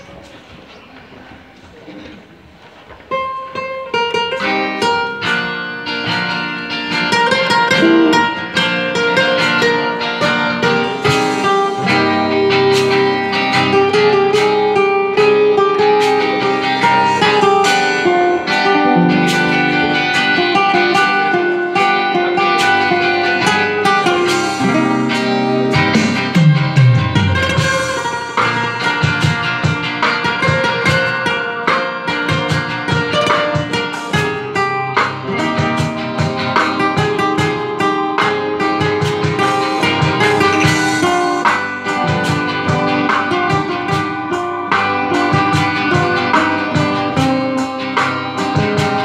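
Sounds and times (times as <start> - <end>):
guitars playing a hymn: 2.5 - 49.0.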